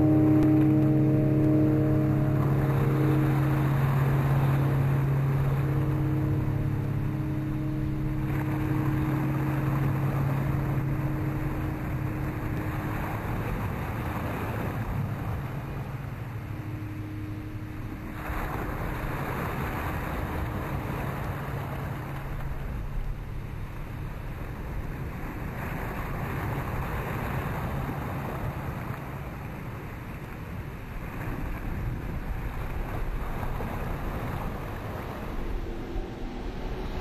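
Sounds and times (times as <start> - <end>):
low steady hum: 0.0 - 37.0
surf washing over sand: 0.0 - 37.0.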